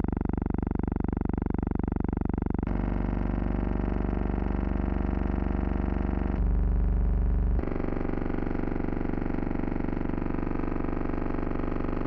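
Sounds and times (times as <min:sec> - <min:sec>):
buzzing hum: 0:00.0 - 0:12.0.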